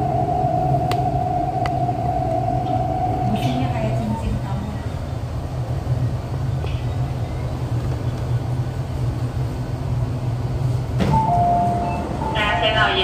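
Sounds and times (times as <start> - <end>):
train rumble and motor hum: 0.0 - 13.0.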